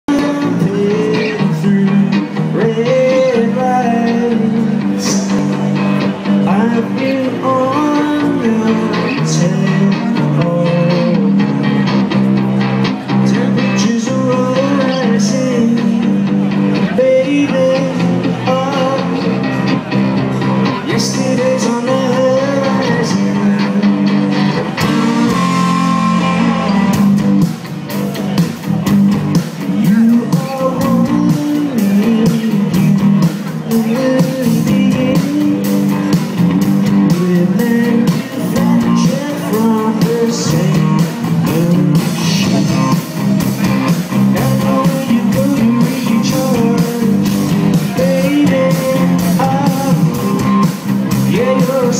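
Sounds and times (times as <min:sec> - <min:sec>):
man singing: 0:00.0 - 0:12.1, 0:13.0 - 0:27.2, 0:29.4 - 0:51.9
drums: 0:00.0 - 0:51.9
electric guitars: 0:00.0 - 0:51.9.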